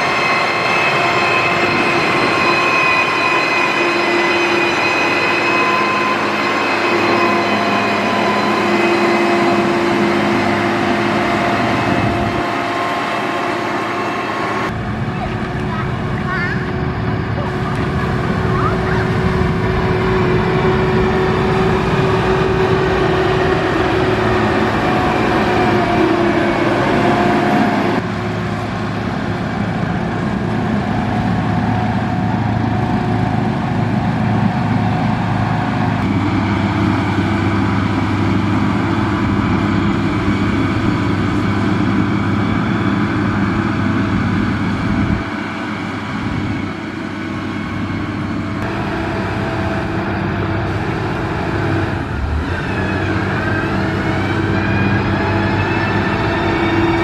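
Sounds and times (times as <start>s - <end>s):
diesel engine running: 7.4s - 57.0s.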